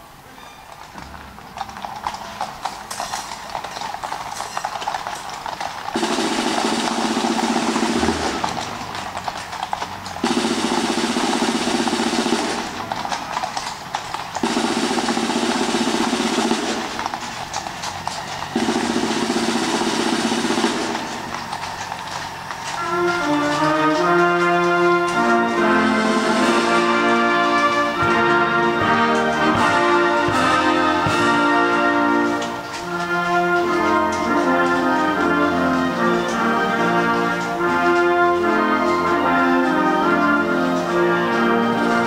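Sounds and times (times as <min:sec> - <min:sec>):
hooves on cobblestones: 0:00.0 - 0:42.0
drum rolls: 0:00.8 - 0:42.0.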